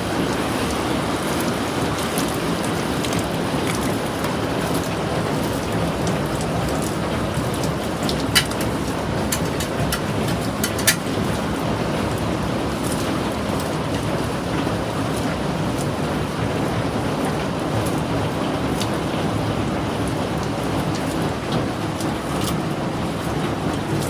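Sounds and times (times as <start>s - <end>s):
heavy rain falling: 0.0s - 24.0s
raindrops tapping close by: 0.0s - 24.0s.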